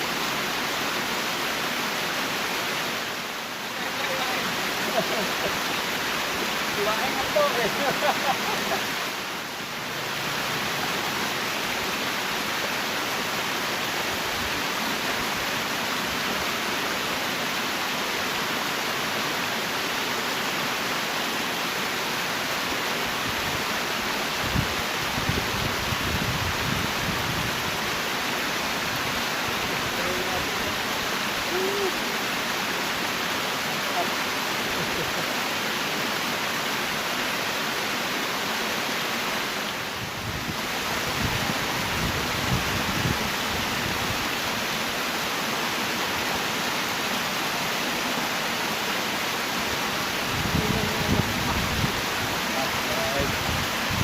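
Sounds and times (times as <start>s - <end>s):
river water rushing over weir: 0.0s - 54.0s.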